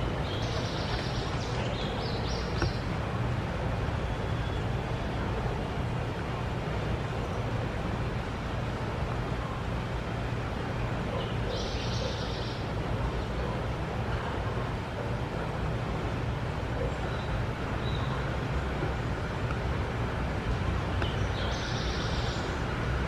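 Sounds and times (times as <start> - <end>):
outdoor rumble and hiss: 0.0 - 23.0.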